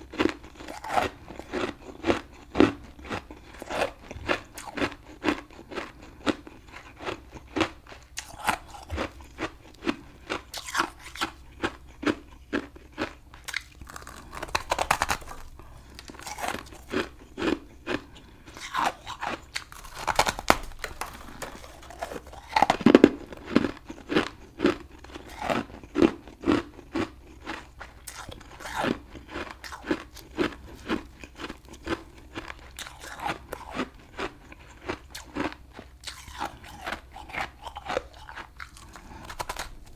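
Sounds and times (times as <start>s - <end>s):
crunching frost chunks chewed: 0.0s - 39.9s.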